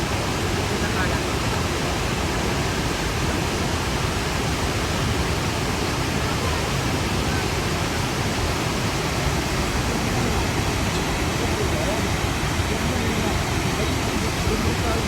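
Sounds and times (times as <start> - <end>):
waterfall crashing: 0.0 - 15.0.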